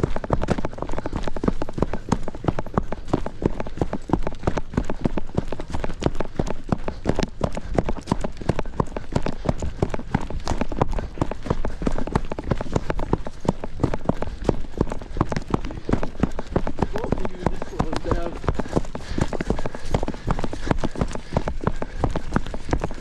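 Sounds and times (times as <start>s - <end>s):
running footsteps: 0.0s - 23.0s.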